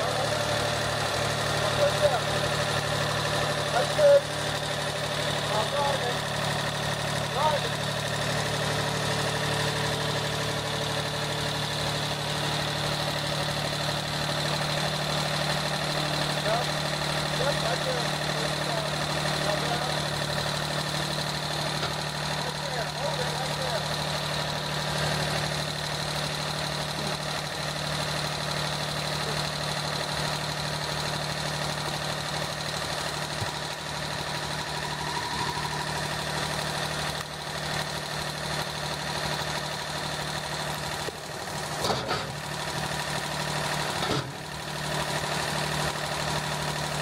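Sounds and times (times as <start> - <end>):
tractor engine idling: 0.0 - 47.0.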